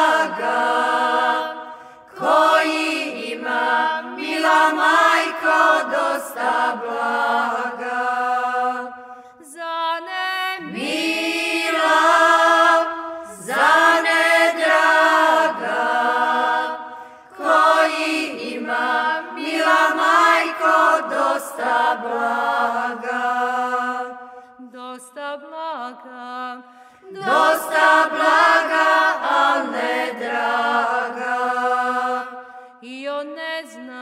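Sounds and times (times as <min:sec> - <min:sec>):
women singing unaccompanied: 0:02.2 - 0:16.8, 0:17.4 - 0:34.0.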